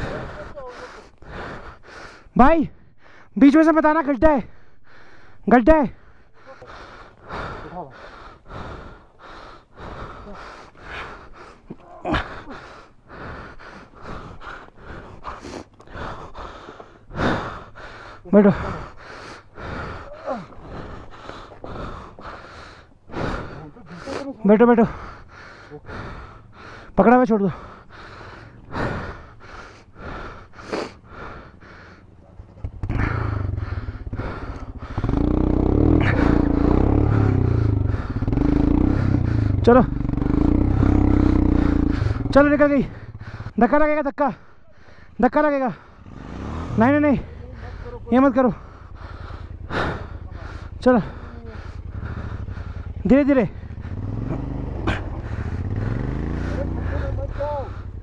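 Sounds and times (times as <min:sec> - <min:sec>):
person panting heavily: 0:00.0 - 0:03.6, 0:04.2 - 0:58.0
motorcycle engine revving: 0:06.0 - 0:43.8, 0:45.1 - 0:58.0.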